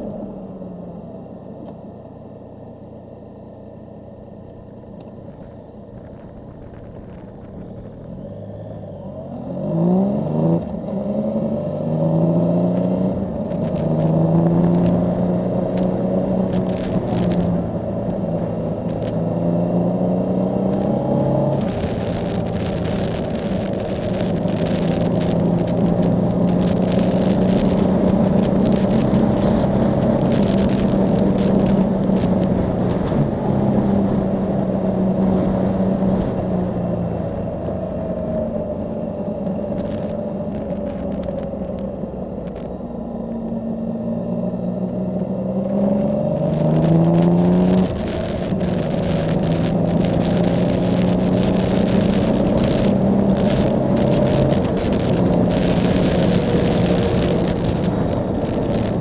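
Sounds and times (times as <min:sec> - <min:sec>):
motorcycle engine running: 0:00.8 - 0:09.5, 0:10.6 - 0:59.0
wind noise: 0:05.3 - 0:43.0, 0:44.8 - 0:59.0.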